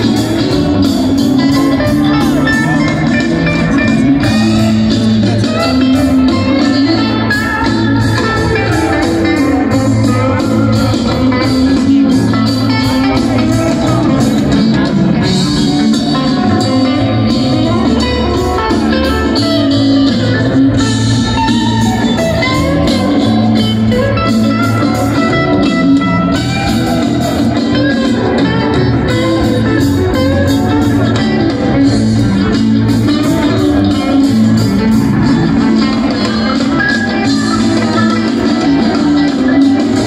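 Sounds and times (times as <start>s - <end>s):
electric guitar: 0.0s - 40.0s
live rock band through pa: 0.0s - 40.0s.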